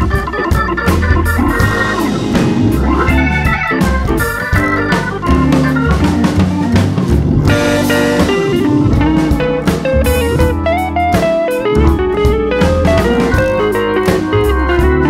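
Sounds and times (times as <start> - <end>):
guitar-led instrumental with drums: 0.0 - 15.0.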